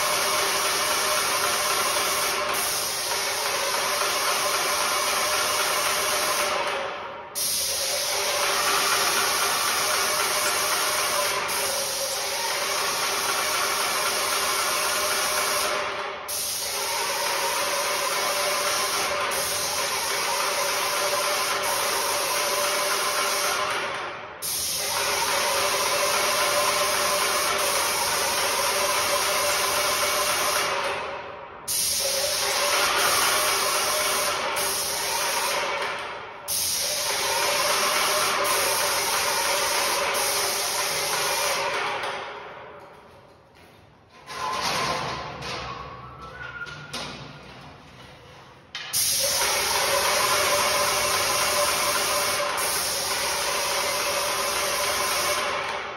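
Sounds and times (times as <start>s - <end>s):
spray gun hissing: 0.0s - 6.7s, 7.4s - 23.7s, 24.4s - 30.8s, 31.7s - 35.8s, 36.5s - 41.8s, 48.9s - 55.6s.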